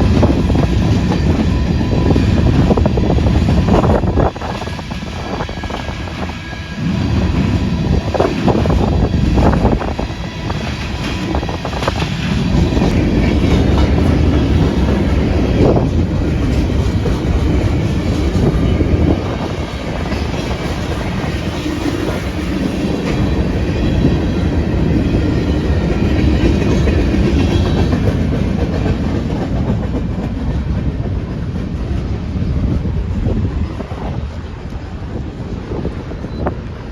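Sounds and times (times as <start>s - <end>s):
freight train rumbling: 0.0s - 36.9s.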